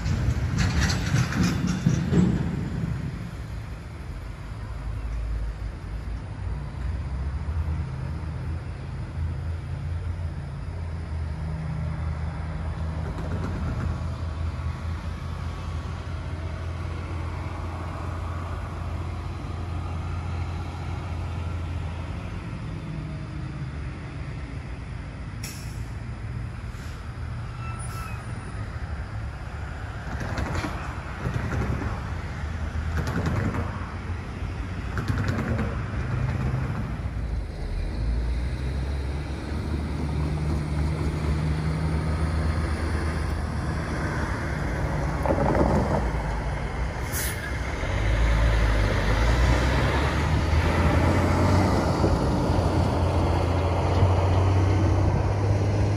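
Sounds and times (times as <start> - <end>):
low engine drone of vehicles: 0.0 - 55.9
vehicles passing: 0.0 - 55.9.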